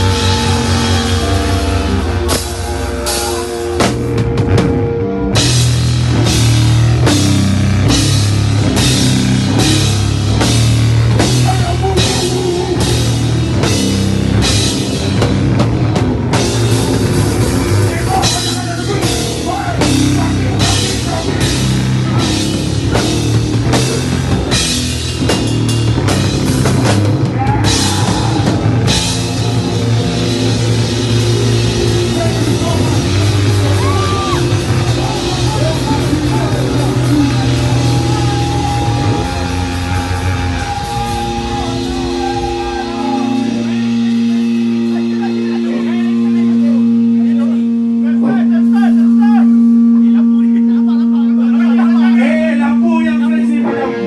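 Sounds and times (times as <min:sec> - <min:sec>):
drum kit and cymbals: 0:00.0 - 0:54.0
heavy rock band playing: 0:00.0 - 0:54.0
low sustained guitar and bass: 0:00.0 - 0:54.0.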